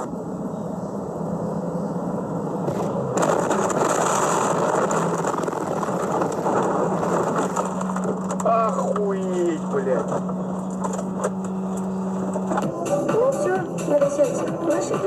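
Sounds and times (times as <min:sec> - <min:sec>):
low hum: 0:00.0 - 0:14.6
car road and engine noise: 0:00.0 - 0:15.0.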